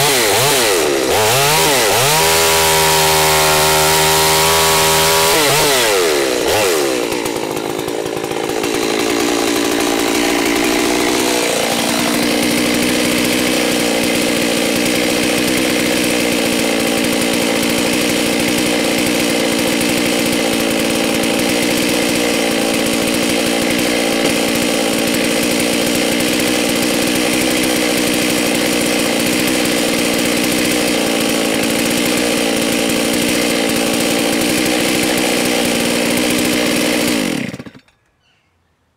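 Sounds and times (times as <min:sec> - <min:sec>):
chainsaw engine: 0:00.0 - 0:38.0.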